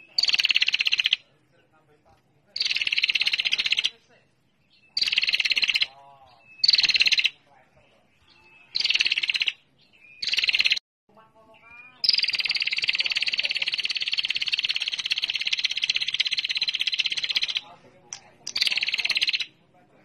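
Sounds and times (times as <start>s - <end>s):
faint low chirping calls: 0.0s - 20.0s.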